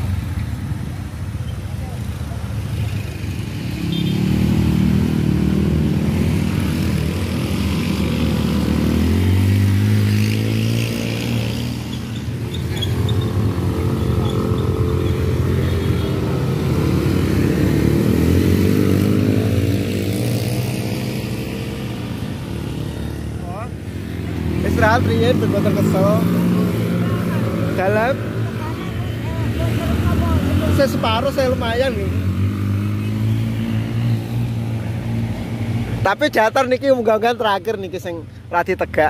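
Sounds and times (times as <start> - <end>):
motorcycle engine revving: 1.8 - 36.4.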